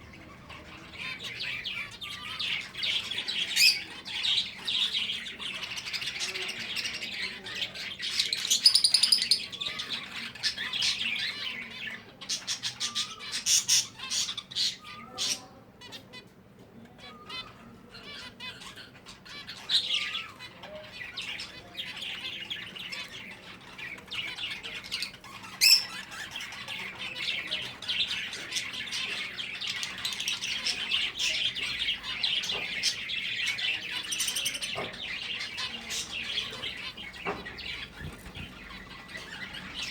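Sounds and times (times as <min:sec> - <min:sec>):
finches chirping: 0:00.0 - 0:16.2, 0:17.0 - 0:39.9.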